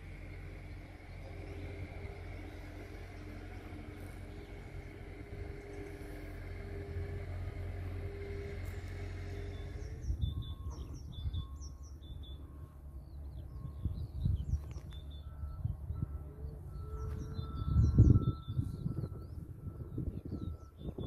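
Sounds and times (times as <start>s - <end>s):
low gusts of rumbling noise: 0.0s - 21.0s
low rumble with faint hum: 0.0s - 21.0s
small birds chirping: 0.0s - 21.0s.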